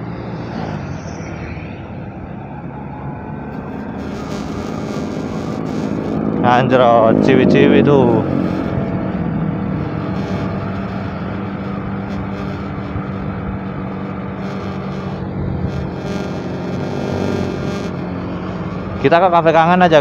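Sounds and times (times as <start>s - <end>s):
road noise: 0.0s - 20.0s
motorcycle engine running: 3.6s - 20.0s.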